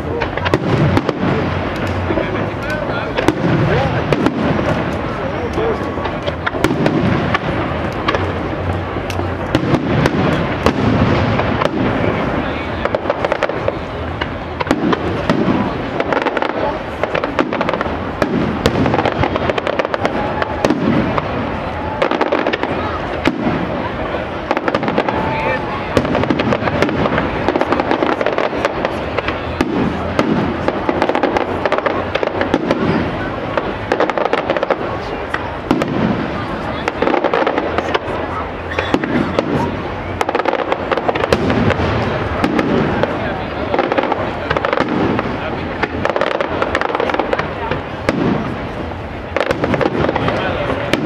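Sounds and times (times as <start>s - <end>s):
fireworks booming: 0.0s - 51.0s
fireworks cracks and pops: 0.0s - 51.0s.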